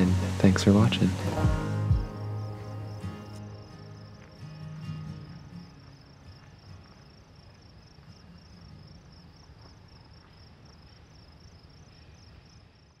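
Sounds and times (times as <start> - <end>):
field insects chirping: 0.0 - 13.0.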